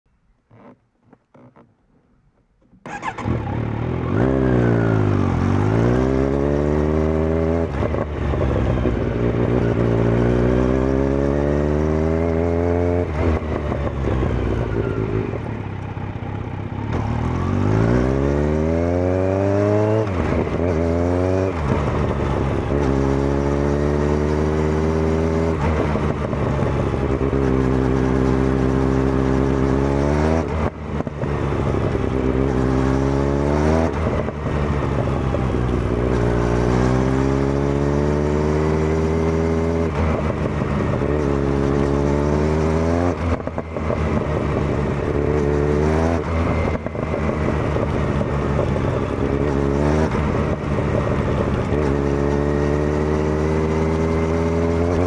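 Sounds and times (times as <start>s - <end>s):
motorcycle engine revving: 2.7s - 55.0s.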